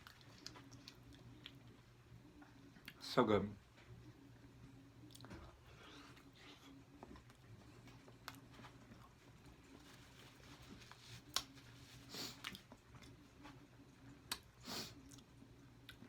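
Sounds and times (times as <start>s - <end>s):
chewing and mouth smacks: 0.0s - 3.0s, 5.0s - 11.7s, 12.3s - 16.0s
faint steady hum: 0.0s - 16.0s.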